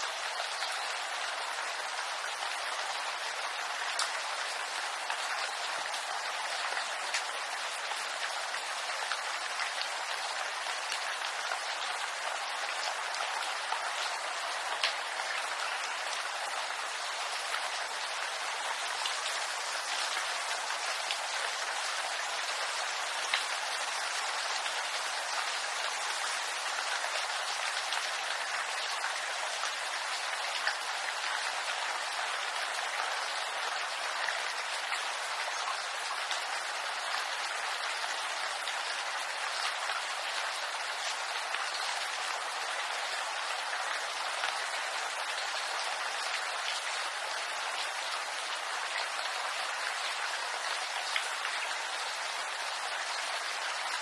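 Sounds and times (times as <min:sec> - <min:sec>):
rain patter on leaves: 0:00.0 - 0:54.0.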